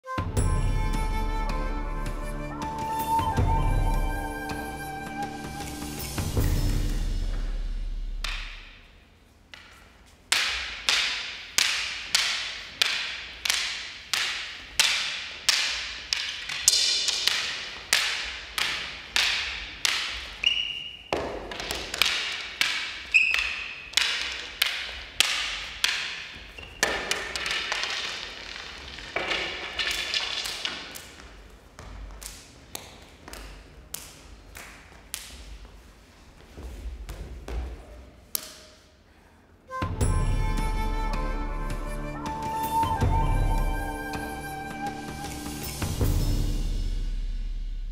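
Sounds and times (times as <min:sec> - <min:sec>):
rattan sticks clacking: 0:00.5 - 0:35.7, 0:38.2 - 0:39.0, 0:39.8 - 0:46.8.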